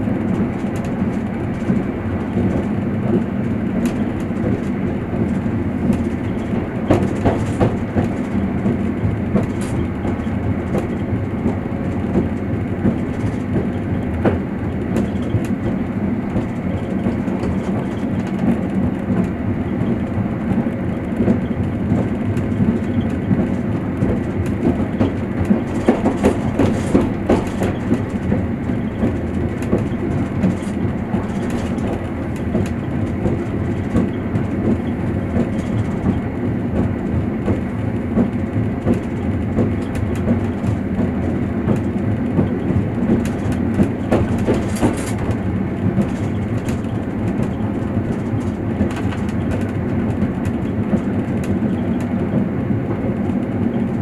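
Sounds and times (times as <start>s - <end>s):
train wheels rumbling on track: 0.0s - 54.0s
wheels clicking over rail joints: 0.0s - 54.0s.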